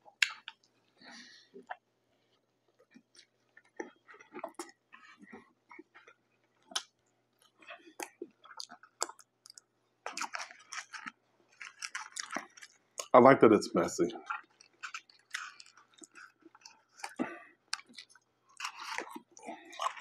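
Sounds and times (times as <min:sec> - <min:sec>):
wet mouth chewing smacks: 0:00.1 - 0:00.7, 0:02.8 - 0:13.1, 0:14.2 - 0:20.0.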